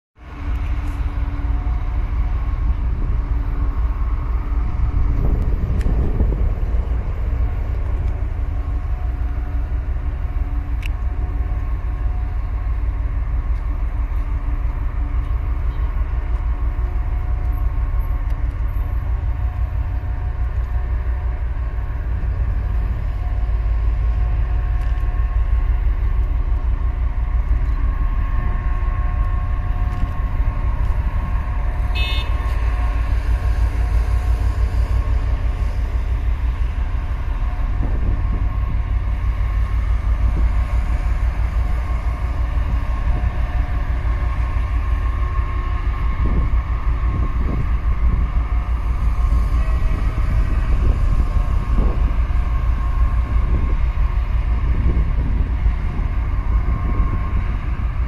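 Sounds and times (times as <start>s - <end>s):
ship machinery rumbling and droning: 0.2s - 58.0s
wind buffeting microphone: 0.3s - 58.0s.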